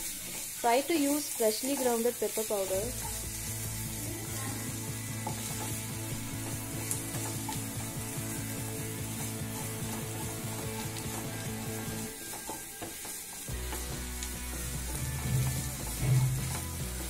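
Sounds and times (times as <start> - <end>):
spatula scraping a pan: 0.0 - 17.0
vegetables sizzling in a frying pan: 0.0 - 17.0.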